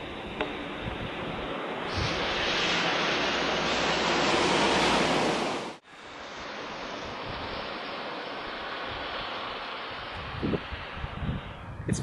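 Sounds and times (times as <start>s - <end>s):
steady rushing noise: 0.0s - 12.0s
car tyres hissing on wet road: 0.6s - 11.7s.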